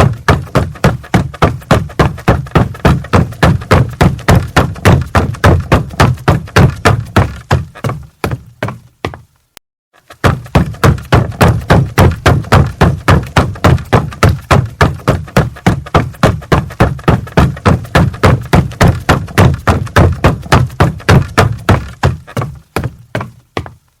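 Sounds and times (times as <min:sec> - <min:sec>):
footsteps running on wooden floor: 0:00.0 - 0:09.4, 0:10.0 - 0:24.0.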